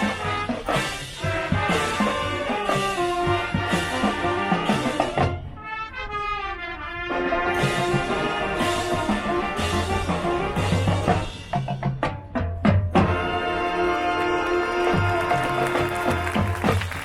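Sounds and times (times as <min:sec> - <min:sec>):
drums: 0:00.0 - 0:17.0
marching band playing: 0:00.0 - 0:17.0.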